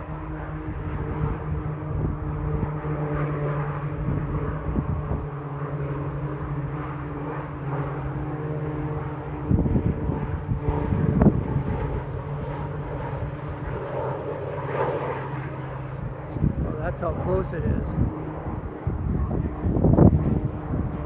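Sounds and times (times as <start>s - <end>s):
propeller aircraft engines droning: 0.0s - 21.0s.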